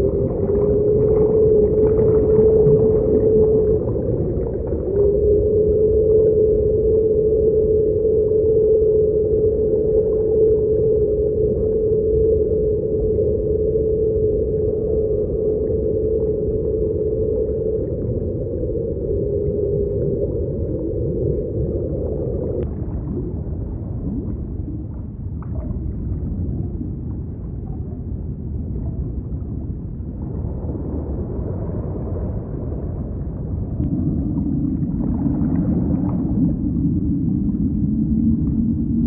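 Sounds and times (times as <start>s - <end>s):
underwater ocean rumble: 0.0s - 39.0s.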